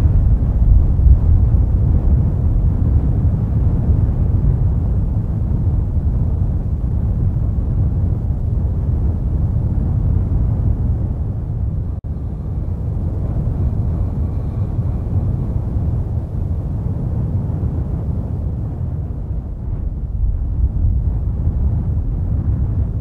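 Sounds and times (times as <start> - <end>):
volcanic eruption rumble: 0.0 - 23.0.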